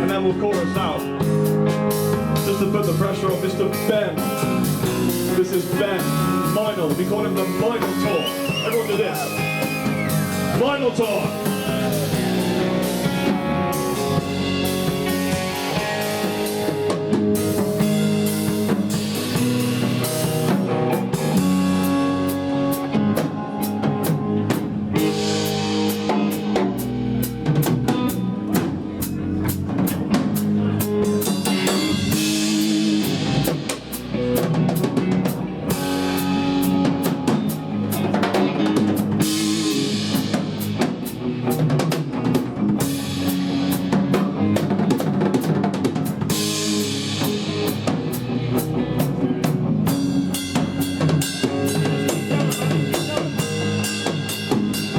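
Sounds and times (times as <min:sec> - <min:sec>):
blues-rock band playing: 0:00.0 - 0:54.9
drum kit played busily: 0:00.0 - 0:54.9.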